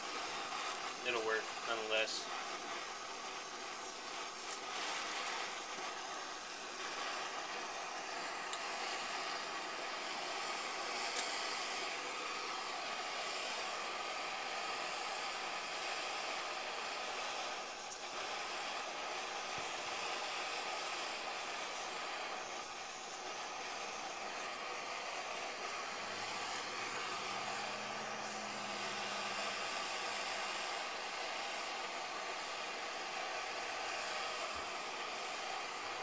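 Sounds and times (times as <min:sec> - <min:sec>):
gas stove flame hissing: 0:00.0 - 0:36.0.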